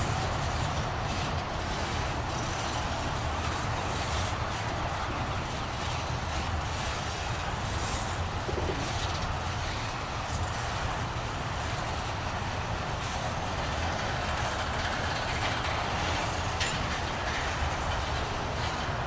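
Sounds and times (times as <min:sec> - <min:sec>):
train wheels rolling on rail: 0:00.0 - 0:19.0.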